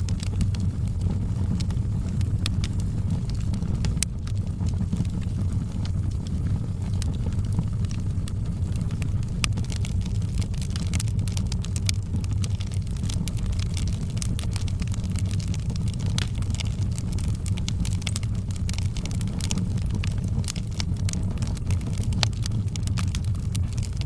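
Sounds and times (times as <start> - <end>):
fire crackling and popping: 0.0 - 24.0
fire roaring: 0.0 - 24.0.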